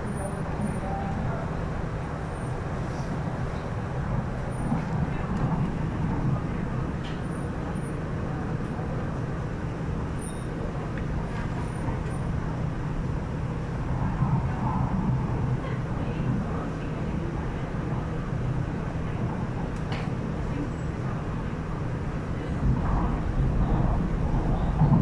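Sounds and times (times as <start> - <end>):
train cabin running hum: 0.0 - 25.0.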